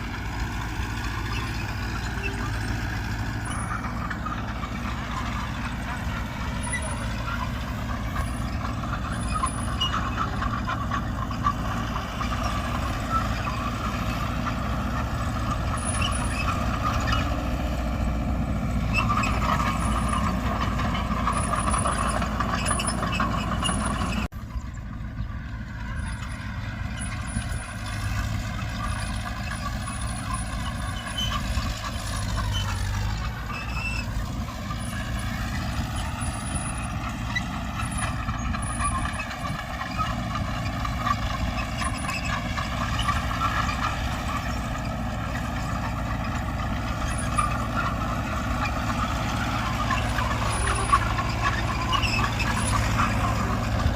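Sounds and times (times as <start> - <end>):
heavy machinery diesel engines: 0.0 - 53.9.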